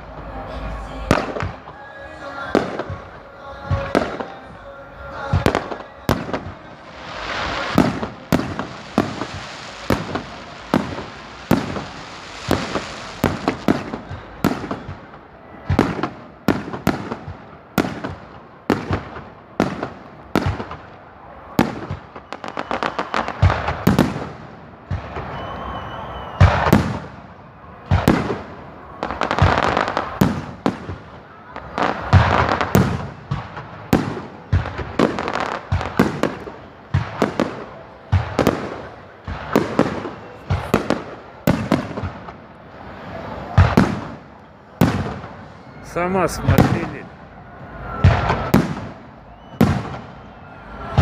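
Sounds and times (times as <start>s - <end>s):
fireworks bursting with sharp bangs: 0.0s - 51.0s.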